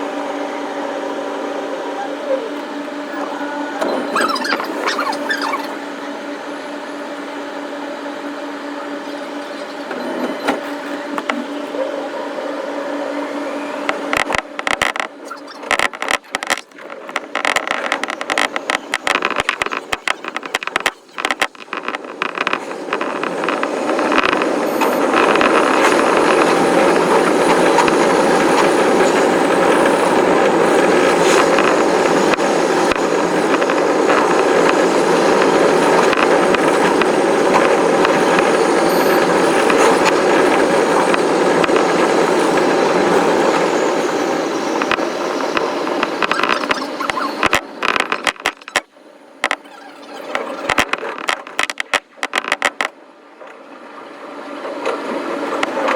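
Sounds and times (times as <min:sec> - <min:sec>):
electric train running: 0:00.0 - 0:48.4.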